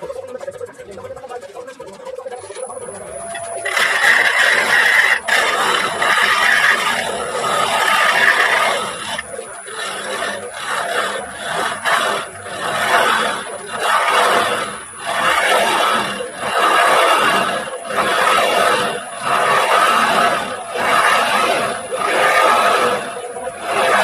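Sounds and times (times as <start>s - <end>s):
lathe gouge scraping wood: 2.6s - 24.0s.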